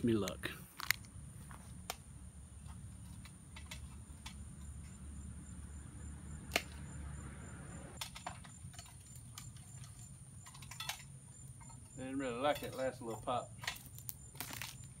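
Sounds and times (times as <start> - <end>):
night insects chirring: 0.8 - 15.0.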